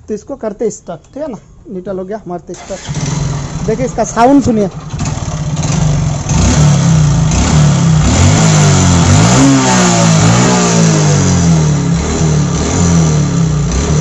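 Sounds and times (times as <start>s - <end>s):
motorcycle engine revving and idling: 2.5s - 14.0s.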